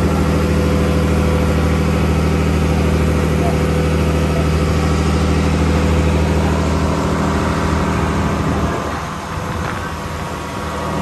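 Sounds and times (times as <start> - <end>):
boat engine droning: 0.0 - 11.0
rush of boat wake: 0.0 - 11.0
wind: 0.0 - 11.0.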